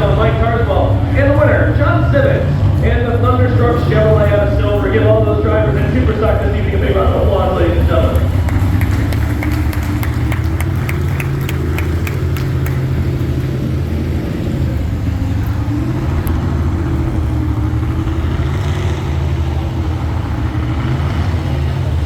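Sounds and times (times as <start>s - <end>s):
large vehicle engine running: 0.0s - 22.0s.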